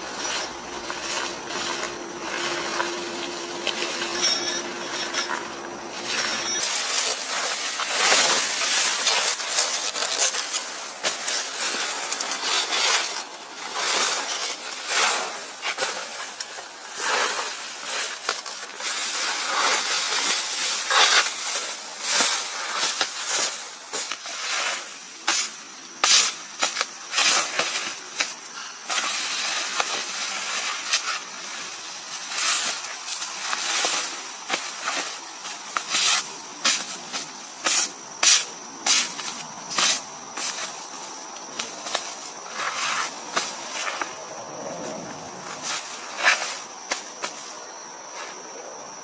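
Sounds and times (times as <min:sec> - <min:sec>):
rustling and scraping: 0:00.0 - 0:49.0.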